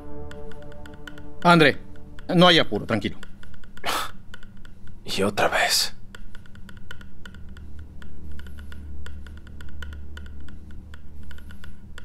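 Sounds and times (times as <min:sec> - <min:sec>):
low hum: 0:00.0 - 0:05.1, 0:06.0 - 0:12.0.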